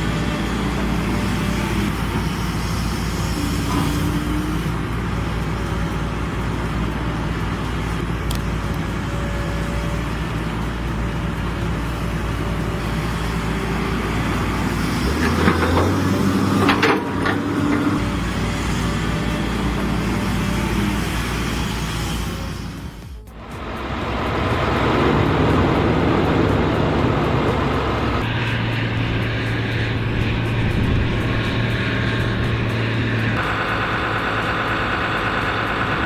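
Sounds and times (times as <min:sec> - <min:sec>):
heavy machinery diesel engines: 0:00.0 - 0:36.0.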